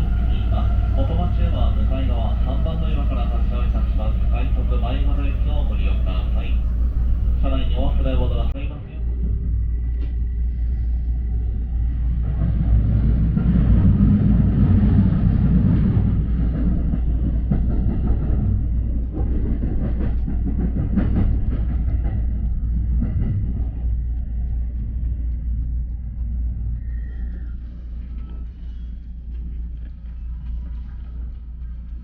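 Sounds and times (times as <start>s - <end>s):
faint track clacks: 0.0s - 8.6s, 12.2s - 32.0s
train rumbling on track: 0.0s - 32.0s.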